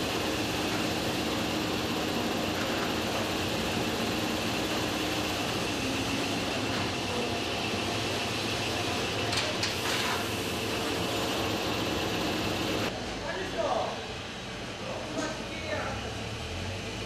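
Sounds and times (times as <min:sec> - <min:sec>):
machinery hum and whir: 0:00.0 - 0:17.0.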